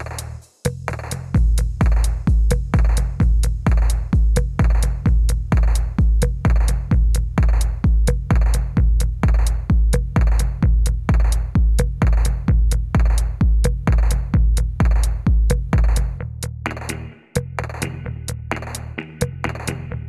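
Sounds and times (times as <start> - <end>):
electronic music with drum beat: 0.0 - 20.0.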